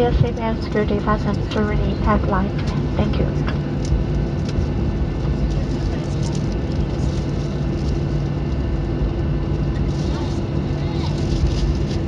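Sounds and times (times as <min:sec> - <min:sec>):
jet engines idling drone: 0:00.0 - 0:12.0
low hum: 0:00.0 - 0:12.0.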